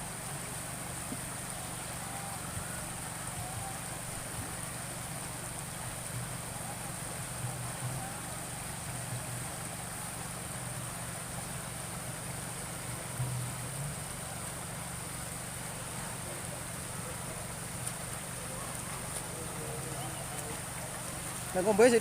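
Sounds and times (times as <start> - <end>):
river water rushing: 0.0 - 22.0
faint distant voices: 0.2 - 22.0.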